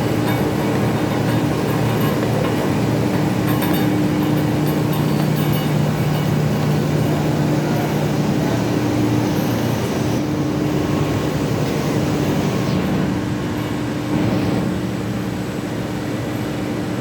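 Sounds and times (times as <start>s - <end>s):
machine running loudly: 0.0s - 16.8s
low machine hum: 0.0s - 17.0s.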